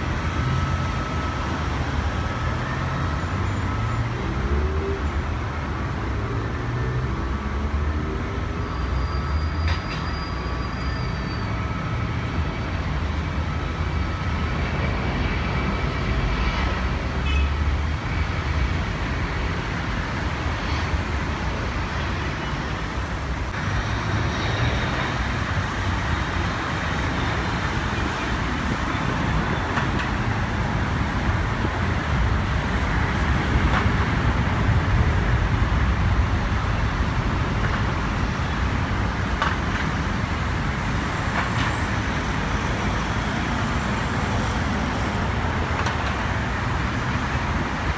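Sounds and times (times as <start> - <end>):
airport ground noise: 0.0 - 47.9
jet engines roaring at takeoff: 0.0 - 47.9
low rumble of traffic: 0.0 - 47.9.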